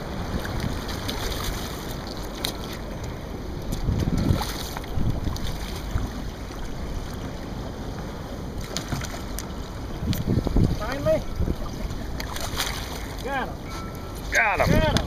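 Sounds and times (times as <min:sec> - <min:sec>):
wind buffeting microphone: 0:00.0 - 0:08.6, 0:09.5 - 0:15.0.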